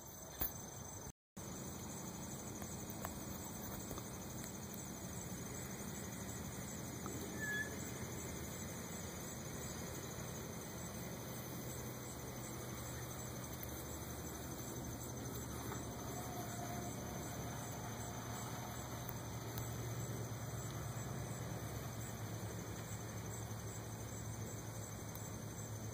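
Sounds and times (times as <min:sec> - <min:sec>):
steady hiss: 0:00.1 - 0:25.9
faint high-pitched chirring: 0:02.5 - 0:25.8.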